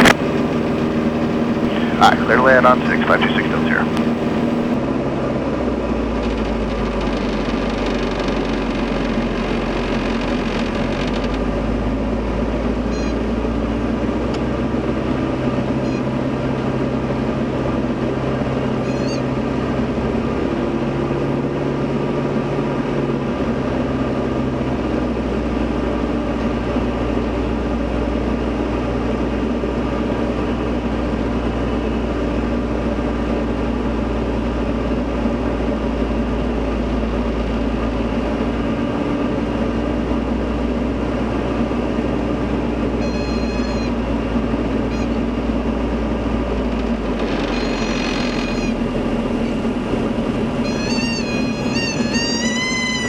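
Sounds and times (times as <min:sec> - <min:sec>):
plane engine and propeller droning: 0:00.0 - 0:14.7, 0:16.4 - 0:53.0.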